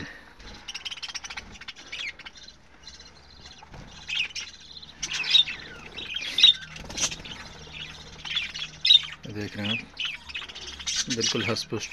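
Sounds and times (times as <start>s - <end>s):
budgerigars chattering: 0.4s - 11.9s
budgerigar squawking calls: 0.5s - 11.9s.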